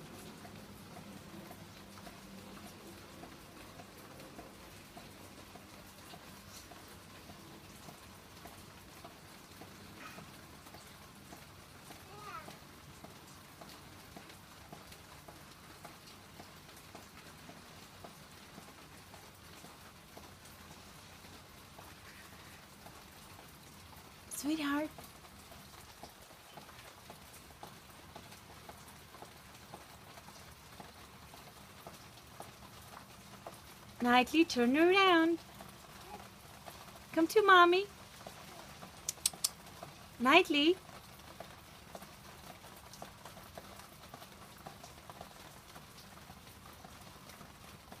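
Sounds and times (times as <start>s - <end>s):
light rain pattering on path: 0.0s - 48.0s.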